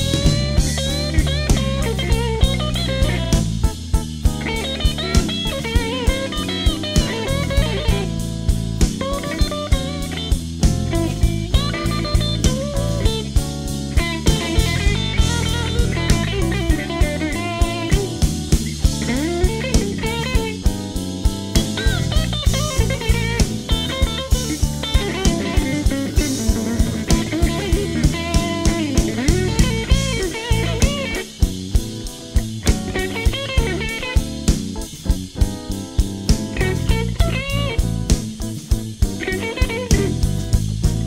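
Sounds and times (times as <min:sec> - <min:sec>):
drum kit beat: 0:00.0 - 0:41.0
electric guitar lead: 0:00.0 - 0:41.0.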